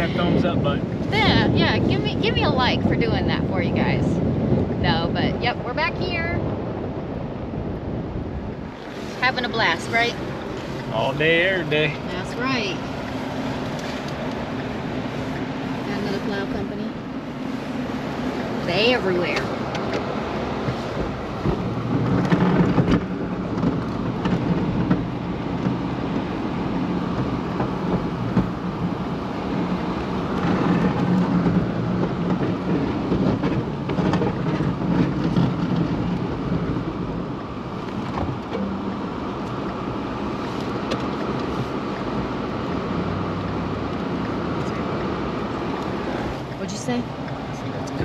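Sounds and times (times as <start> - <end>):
plow truck engine running: 0.0 - 6.8, 7.5 - 48.0.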